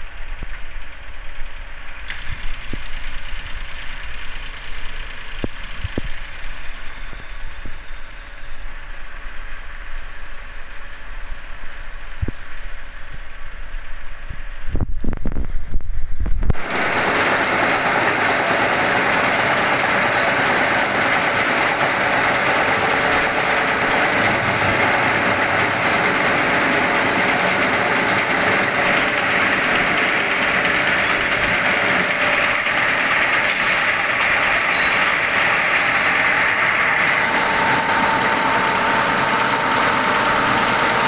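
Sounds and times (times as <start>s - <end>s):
metalworking machine drone: 0.0s - 14.8s, 15.4s - 41.0s.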